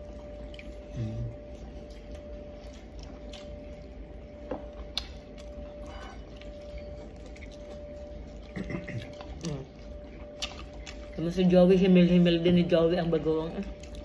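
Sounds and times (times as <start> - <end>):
chewing: 0.0 - 12.5, 13.1 - 14.0
faint steady hum: 0.0 - 14.0.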